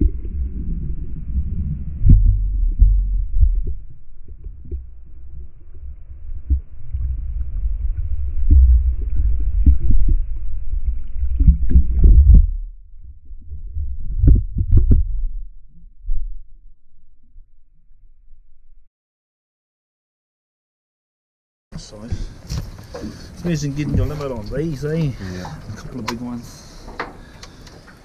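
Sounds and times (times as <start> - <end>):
muffled underwater rumble: 0.0 - 18.9, 21.8 - 27.6.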